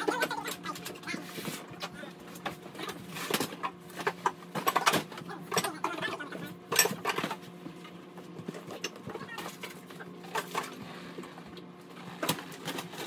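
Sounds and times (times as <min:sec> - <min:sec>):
knocks and clatter of belongings: 0:00.0 - 0:13.0
steady low hum: 0:00.0 - 0:13.0.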